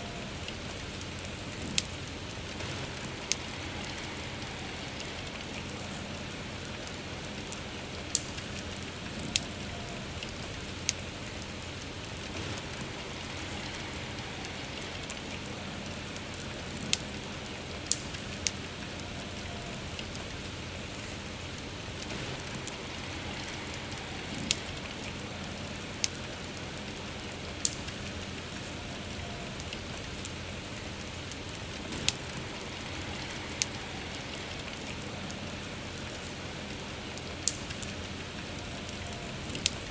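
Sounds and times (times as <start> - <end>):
campfire popping and crackling: 0.0 - 39.9
soft rain falling: 0.0 - 39.9.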